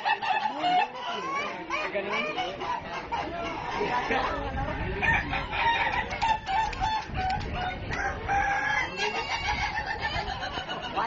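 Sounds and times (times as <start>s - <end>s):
roosters crowing and clucking: 0.0s - 11.0s.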